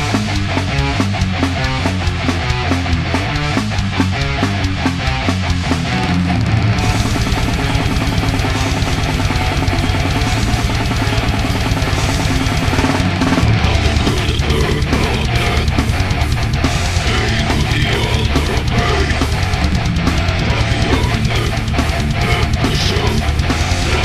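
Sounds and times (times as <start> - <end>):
death metal song: 0.0 - 24.0
fast dense drumming: 0.0 - 24.0.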